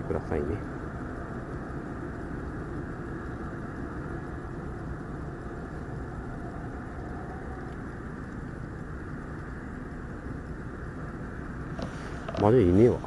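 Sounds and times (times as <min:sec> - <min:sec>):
boat engines rumbling: 0:00.0 - 0:13.0.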